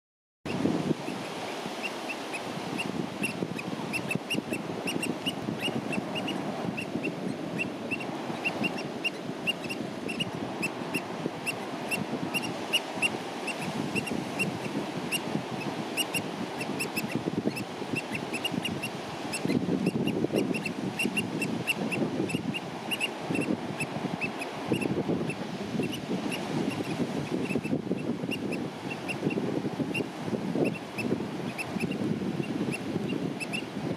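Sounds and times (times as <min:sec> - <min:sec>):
shorebirds piping: 0:00.5 - 0:33.9.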